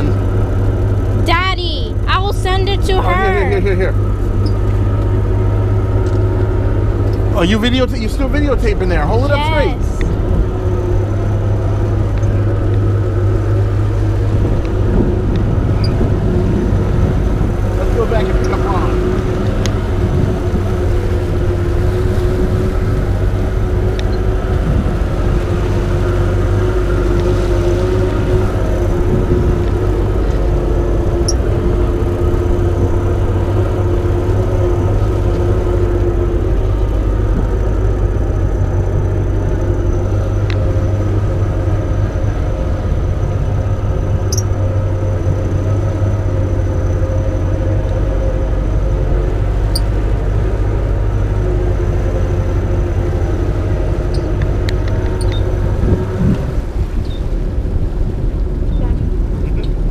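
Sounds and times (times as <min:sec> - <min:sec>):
boat motor droning: 0:00.0 - 0:59.9.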